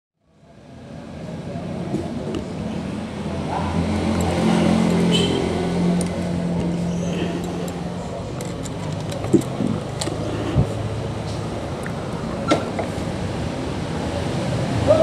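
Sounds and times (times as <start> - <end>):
vehicle engine humming: 0.4 - 15.0.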